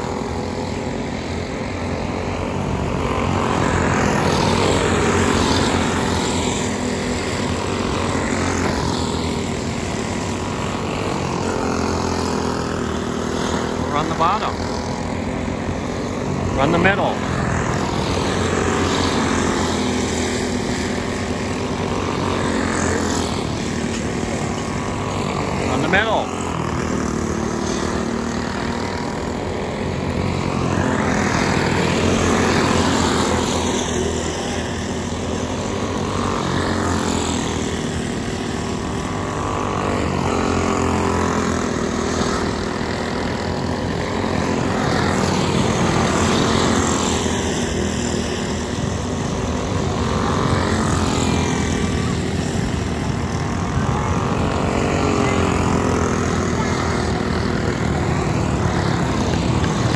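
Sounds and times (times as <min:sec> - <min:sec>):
go-kart engines racing: 0:00.0 - 0:59.9.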